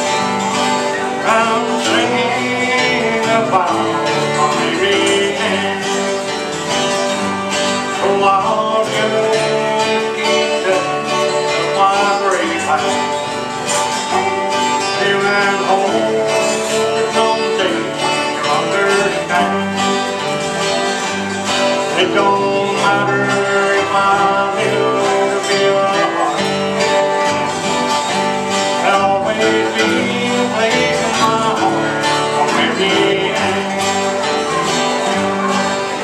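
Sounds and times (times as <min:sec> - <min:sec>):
acoustic guitars strumming: 0:00.0 - 0:36.0
banjo picking: 0:00.0 - 0:36.0.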